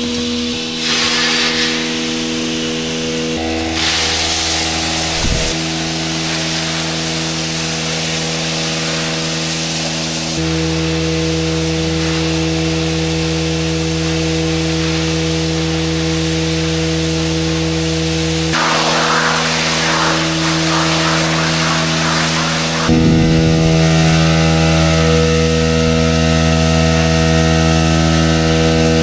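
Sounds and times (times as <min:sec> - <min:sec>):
hose water splashing on concrete: 0:00.7 - 0:02.6, 0:03.4 - 0:29.0
steady motor hum: 0:01.8 - 0:29.0.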